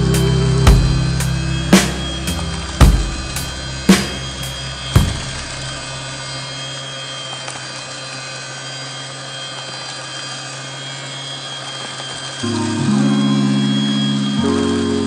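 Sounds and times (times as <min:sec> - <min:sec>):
electric hand mixer whipping batter: 0:00.0 - 0:15.0.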